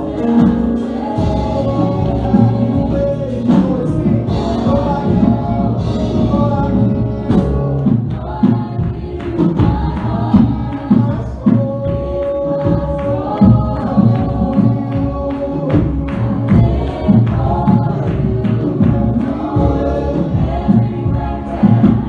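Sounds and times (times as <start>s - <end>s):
band with drums: 0.0s - 22.0s
gospel singing: 0.0s - 22.0s.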